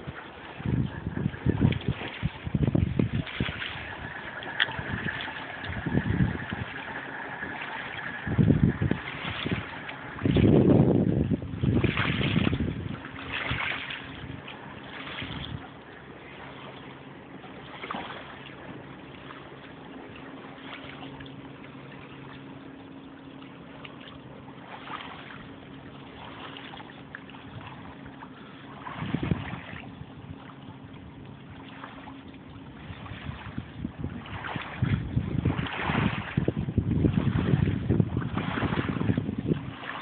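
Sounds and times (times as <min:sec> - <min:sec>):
waves lapping on pebbles: 0:00.0 - 0:22.5, 0:23.7 - 0:30.6, 0:31.5 - 0:40.0
wind rumble on microphone: 0:00.0 - 0:22.8, 0:23.7 - 0:40.0
steady low hum: 0:00.0 - 0:40.0.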